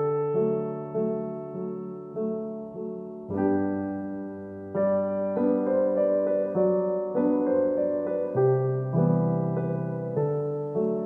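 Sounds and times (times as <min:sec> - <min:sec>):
slow solo piano music: 0:00.0 - 0:11.0.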